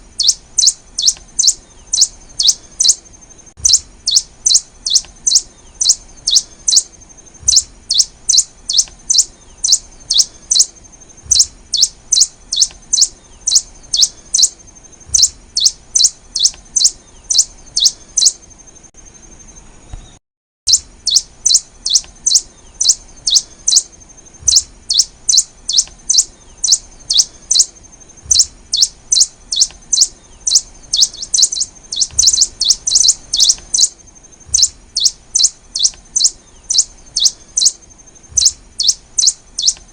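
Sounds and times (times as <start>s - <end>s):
finch singing high chirps: 0.1s - 39.9s.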